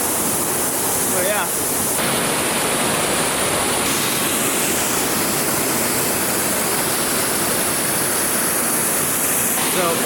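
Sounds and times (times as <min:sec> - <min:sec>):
waterfall pouring into pool: 0:00.0 - 0:10.0.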